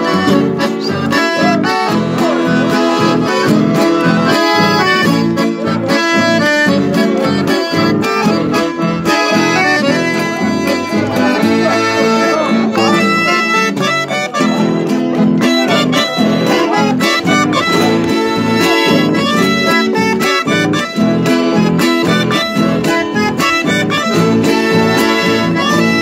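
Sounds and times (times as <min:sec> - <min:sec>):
accordion playing lively melody: 0:00.0 - 0:26.0
acoustic guitars: 0:00.0 - 0:26.0.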